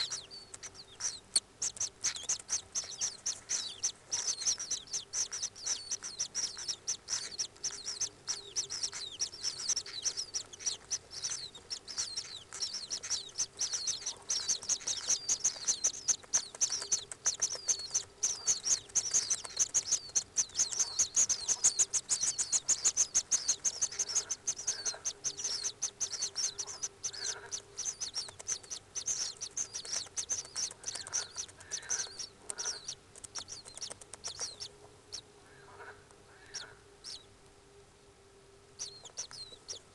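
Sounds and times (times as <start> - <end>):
bird chicks chirping: 0.0 - 37.5, 38.5 - 39.9
faint low hum: 0.0 - 39.9.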